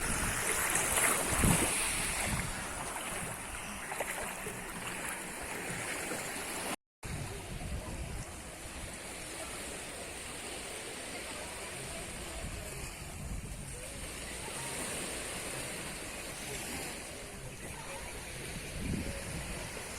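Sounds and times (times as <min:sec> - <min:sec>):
sea surf washing onto beach: 0:00.0 - 0:19.9
wind: 0:00.0 - 0:19.9.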